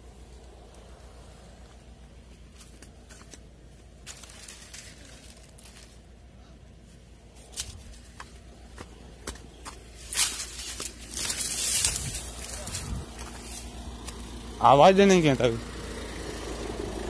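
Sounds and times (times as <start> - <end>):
dry plants crackling underfoot: 0.0 - 14.5
low steady rumble: 0.0 - 17.0.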